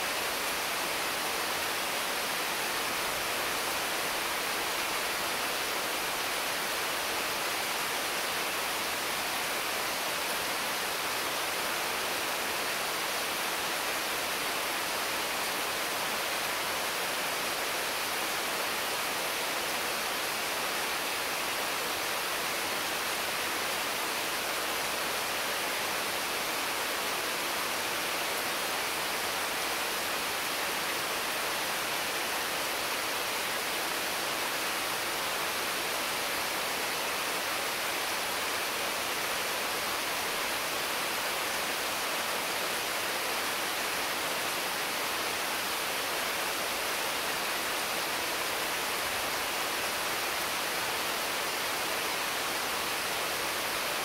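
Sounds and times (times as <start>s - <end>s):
heavy rain on trees: 0.0s - 54.0s.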